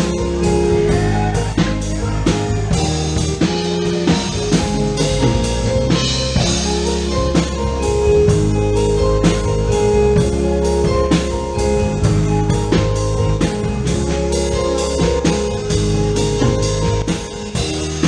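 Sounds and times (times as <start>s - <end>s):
bass and chord notes: 0.0s - 18.0s
drum kit beat: 0.0s - 18.0s.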